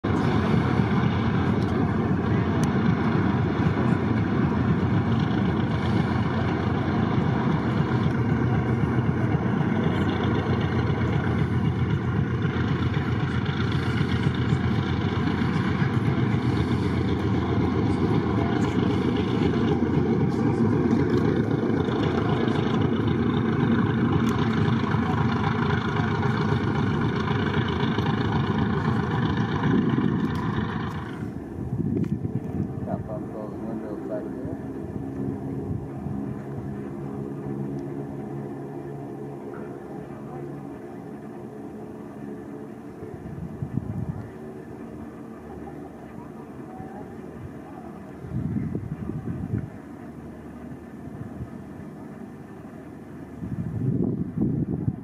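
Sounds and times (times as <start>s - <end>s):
piston aircraft engines rumbling: 0.0s - 55.0s.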